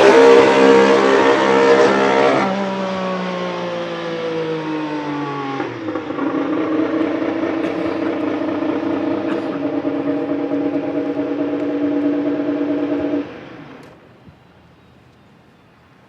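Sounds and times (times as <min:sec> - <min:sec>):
racing car engine: 0:00.0 - 0:13.9.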